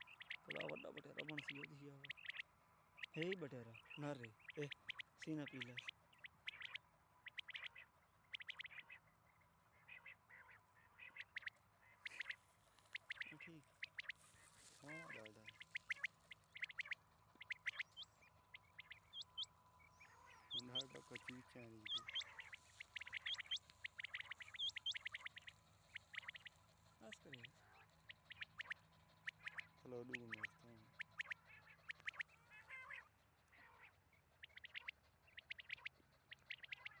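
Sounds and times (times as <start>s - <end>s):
quail calling: 0.0s - 37.0s.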